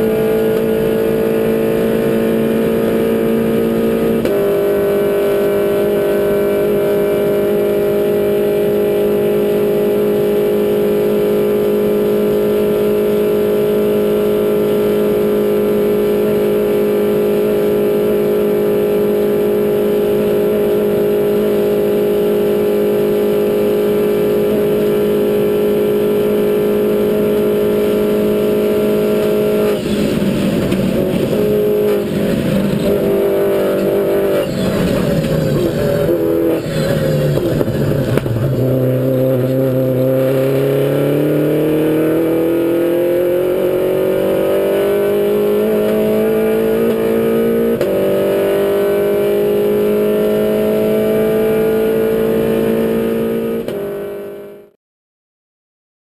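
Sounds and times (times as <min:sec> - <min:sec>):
race car engine revving: 0:00.0 - 0:54.7.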